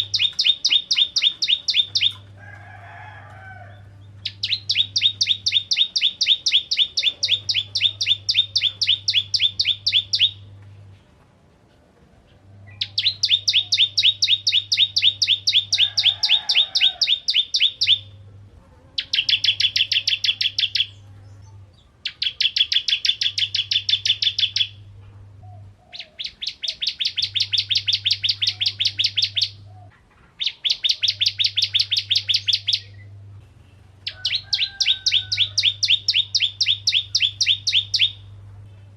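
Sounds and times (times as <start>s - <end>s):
bird singing rattling trill: 0.0s - 2.3s, 3.6s - 10.5s, 12.7s - 18.2s, 19.0s - 24.9s, 25.9s - 29.7s, 30.4s - 33.1s, 34.0s - 38.3s.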